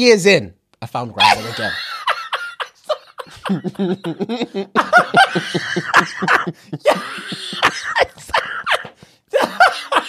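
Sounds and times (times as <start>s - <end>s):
men laughing: 1.2s - 10.0s.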